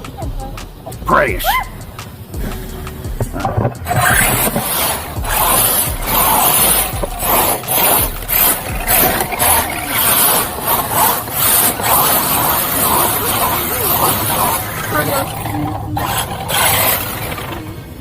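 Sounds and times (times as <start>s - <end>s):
rc truck tyres churning ground: 0.0s - 18.0s.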